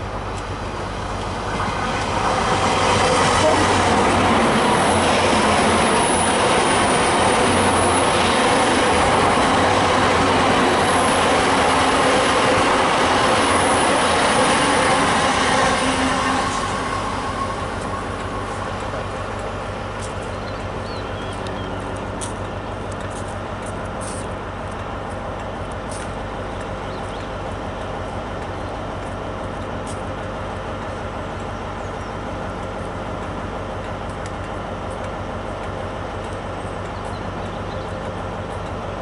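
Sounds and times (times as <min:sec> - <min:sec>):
diesel train rumble: 0:00.0 - 0:39.0.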